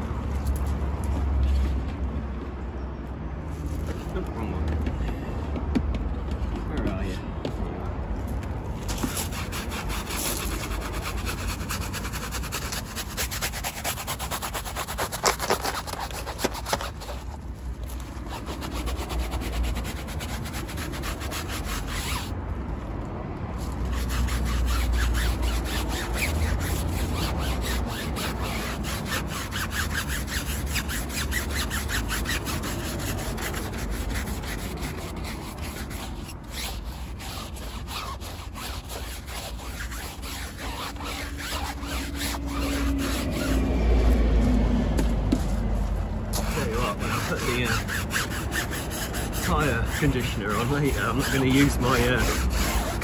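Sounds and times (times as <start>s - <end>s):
brush scrubbing a tyre: 8.4s - 53.0s.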